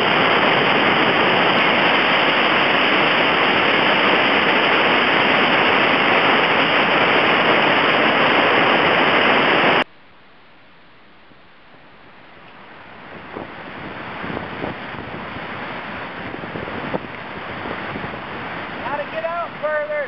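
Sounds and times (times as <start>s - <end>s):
whitewater rushing through rapids: 0.0s - 9.9s, 12.6s - 20.0s.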